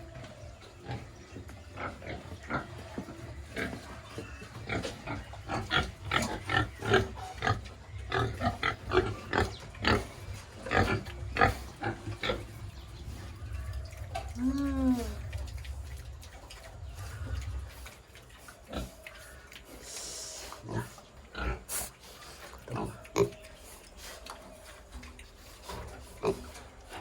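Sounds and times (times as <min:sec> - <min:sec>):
pigs grunting and squealing: 0:00.0 - 0:27.0.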